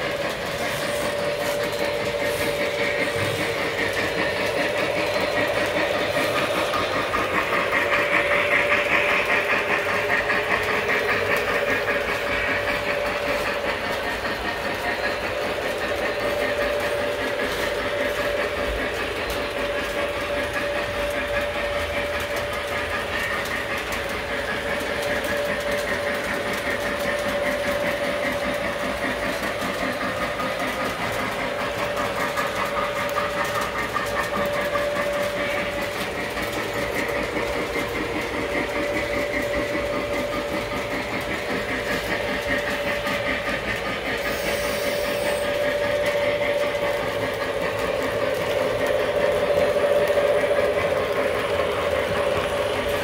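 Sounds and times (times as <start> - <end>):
model train motor whine: 0.0 - 53.0
wheels clacking on rails: 0.0 - 53.0.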